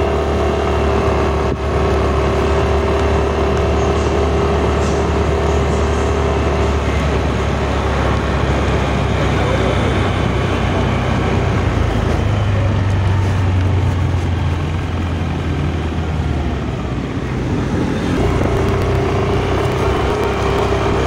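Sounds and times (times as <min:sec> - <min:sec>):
scooter engine running: 0:00.0 - 0:21.0
wind and road noise: 0:00.0 - 0:21.0.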